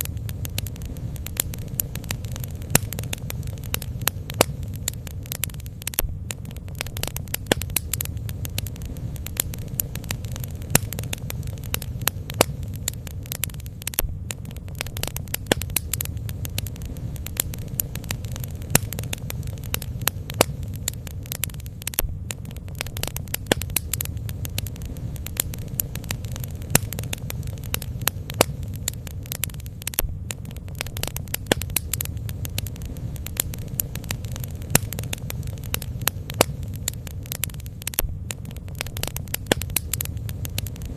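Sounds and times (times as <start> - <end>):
bonfire crackling: 0.0 - 40.9
low rumble: 0.0 - 40.9.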